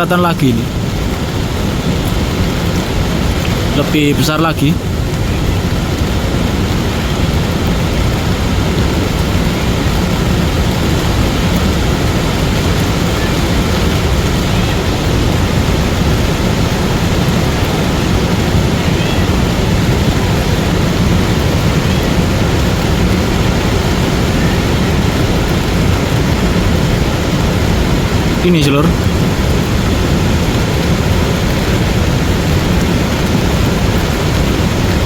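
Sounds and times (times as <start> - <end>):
rain: 0.0 - 35.0
rumble of mudflow in river: 0.0 - 35.0
strong wind: 0.0 - 35.0.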